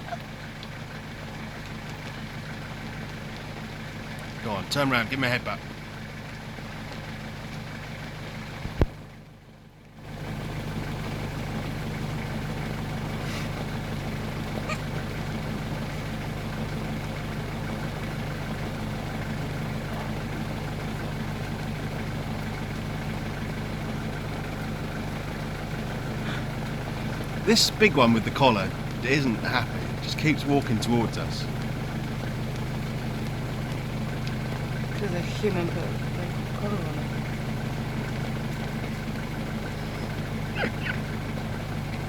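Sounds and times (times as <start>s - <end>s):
vehicle engine idling: 0.0s - 42.0s.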